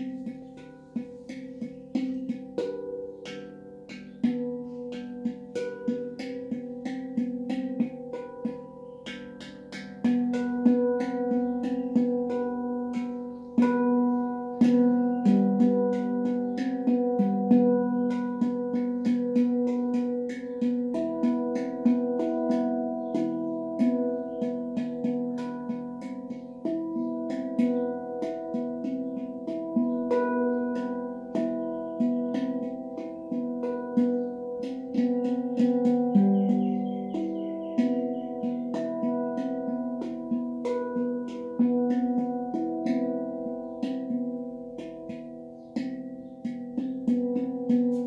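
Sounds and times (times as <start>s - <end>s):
finger strikes: 0.0s - 48.0s
handpan notes: 0.0s - 48.0s.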